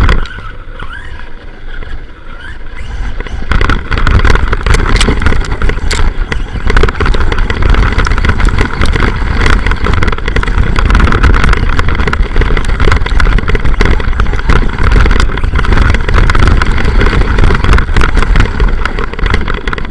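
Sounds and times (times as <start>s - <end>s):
rc car engine rumble: 0.0s - 19.9s
knocks and rattles from bumps: 2.8s - 19.9s.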